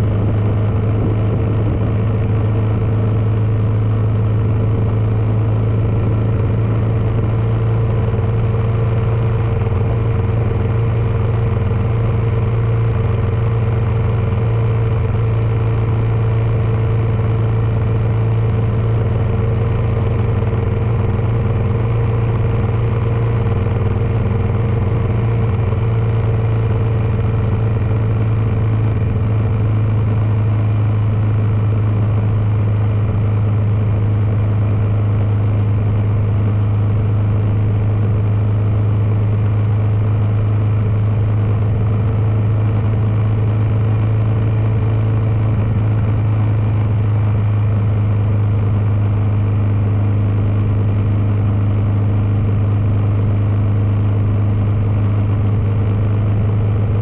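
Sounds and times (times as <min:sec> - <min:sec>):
motorcycle engine droning: 0:00.0 - 0:57.0
wind and road noise: 0:00.0 - 0:57.0.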